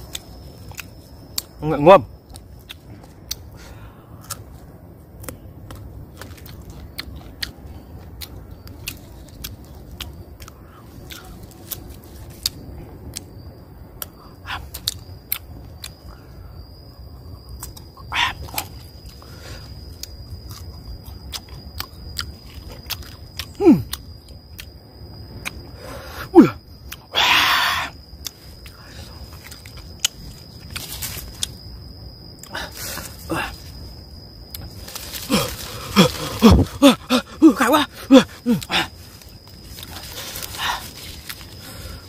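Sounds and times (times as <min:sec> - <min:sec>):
crunching and chewing fruit: 0:00.0 - 0:13.4, 0:14.0 - 0:16.2, 0:17.5 - 0:26.0, 0:26.6 - 0:27.2, 0:27.9 - 0:42.0.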